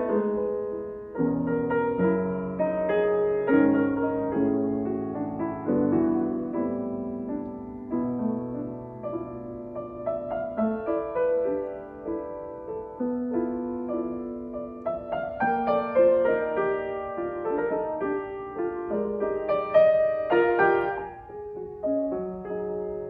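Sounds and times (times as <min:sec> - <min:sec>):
solo piano piece: 0:00.0 - 0:23.0.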